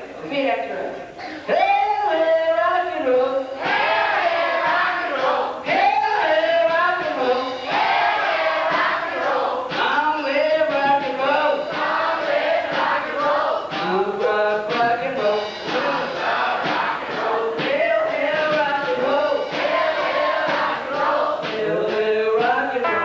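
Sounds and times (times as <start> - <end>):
group singing unaccompanied: 3.6 - 23.0.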